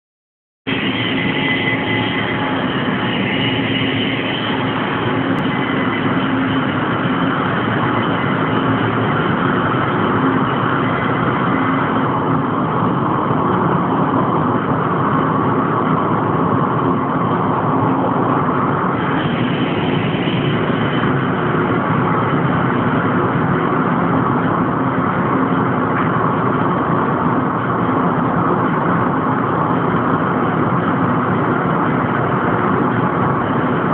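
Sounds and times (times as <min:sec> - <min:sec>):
machinery drone: 0:00.7 - 0:33.9
machinery whining tones: 0:00.7 - 0:33.9.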